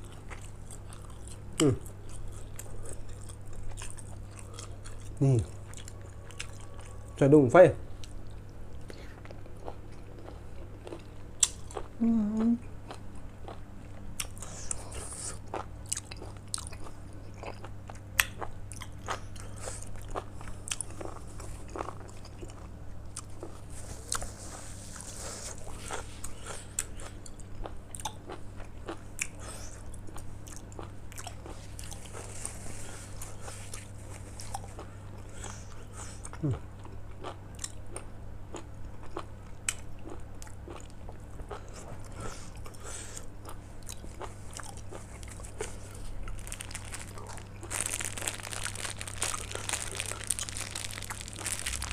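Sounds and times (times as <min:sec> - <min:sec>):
person chewing food: 0:00.0 - 0:07.2, 0:07.9 - 0:51.9.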